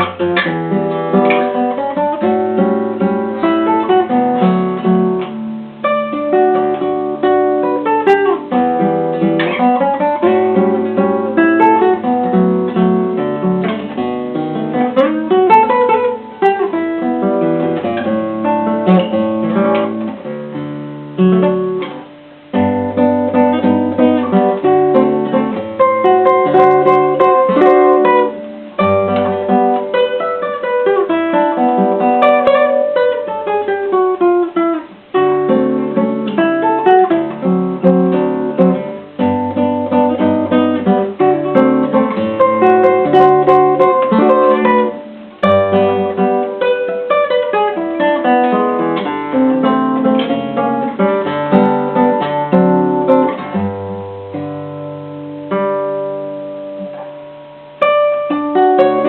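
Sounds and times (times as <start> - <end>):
acoustic guitar plucked melody: 0.0 - 59.0.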